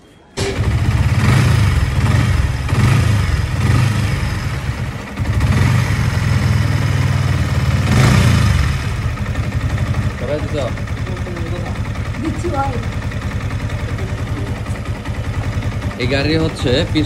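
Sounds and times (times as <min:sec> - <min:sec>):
motorcycle engine pulsing: 0:00.4 - 0:17.0.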